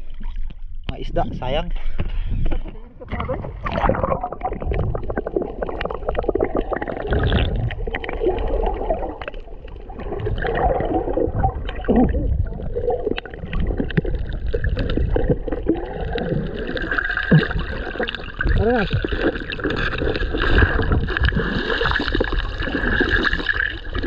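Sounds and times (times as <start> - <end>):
water gurgling underwater: 2.3 - 24.0.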